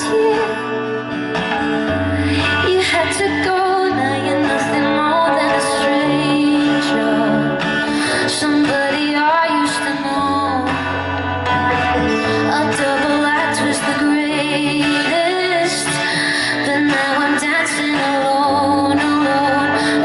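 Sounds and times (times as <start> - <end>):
sustained bass notes: 0.0 - 16.8
band playing pop music: 0.0 - 20.0
woman singing: 0.0 - 20.0.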